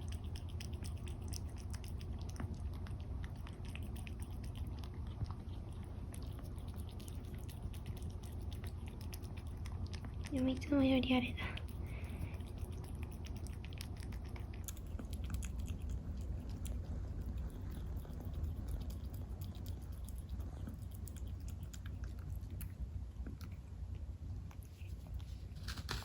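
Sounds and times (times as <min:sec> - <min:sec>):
kitten crunching food: 0:00.0 - 0:26.0.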